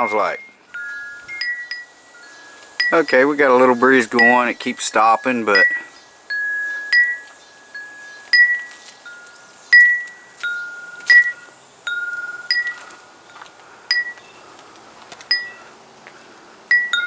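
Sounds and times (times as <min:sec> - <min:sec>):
wind chimes ringing: 0:00.0 - 0:14.4, 0:15.2 - 0:15.8, 0:16.7 - 0:17.0.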